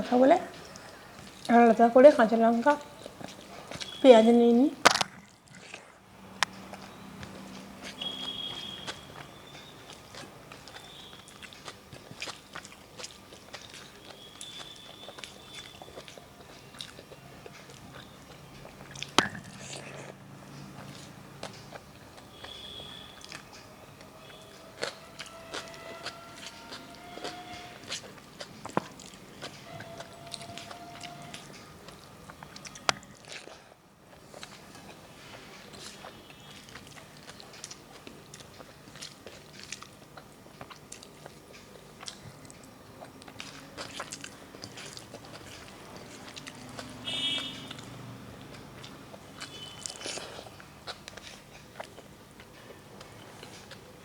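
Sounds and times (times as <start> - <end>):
crisp bites and chewing: 4.8 - 35.0, 35.6 - 53.8.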